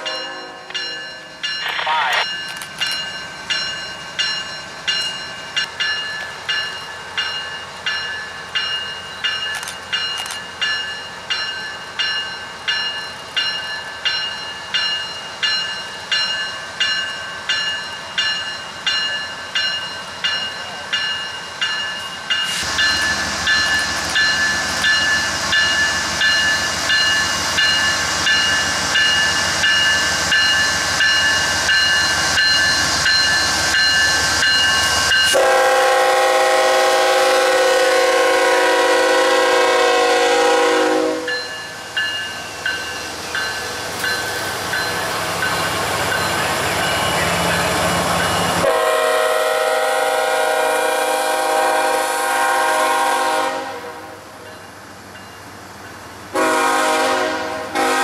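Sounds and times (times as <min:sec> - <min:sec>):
railroad bell ringing: 0:00.0 - 0:50.2, 0:53.0 - 0:58.0
diesel locomotive engine and wheels: 0:00.0 - 0:58.0.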